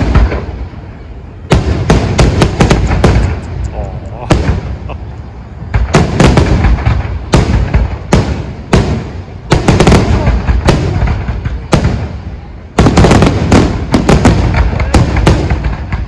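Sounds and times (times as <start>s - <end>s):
sharp firework bangs: 0.0s - 0.6s, 1.5s - 3.6s, 4.2s - 5.0s, 5.6s - 16.0s
low rumble of shell bursts: 0.0s - 16.0s.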